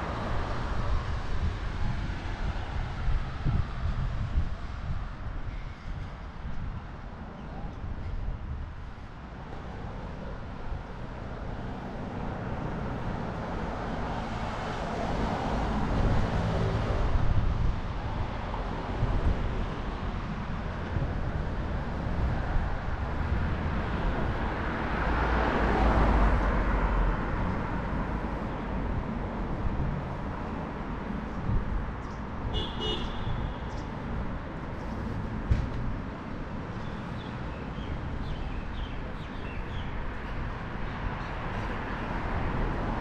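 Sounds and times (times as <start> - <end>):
cars passing: 0.0 - 6.8, 8.4 - 43.0.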